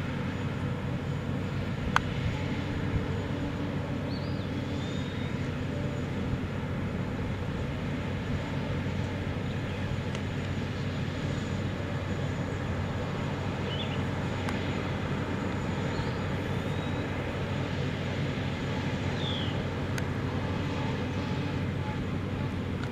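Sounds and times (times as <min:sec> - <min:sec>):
drilling rig low roar: 0:00.0 - 0:22.9.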